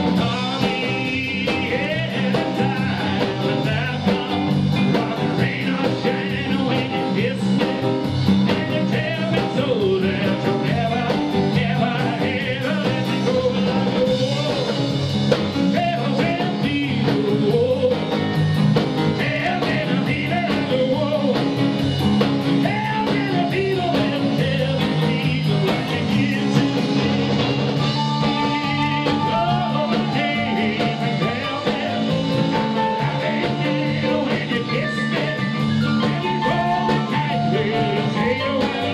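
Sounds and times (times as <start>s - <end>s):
man singing: 0.0s - 18.4s, 19.1s - 21.8s, 22.5s - 38.9s
rockabilly band playing: 0.0s - 38.9s.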